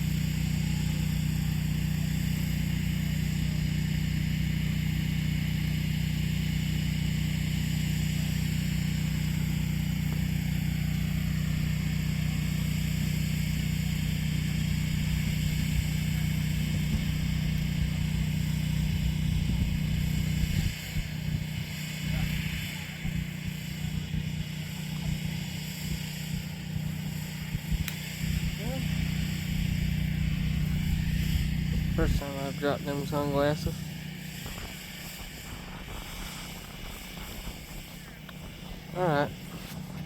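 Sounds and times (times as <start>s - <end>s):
engine running with low hum: 0.0s - 40.0s.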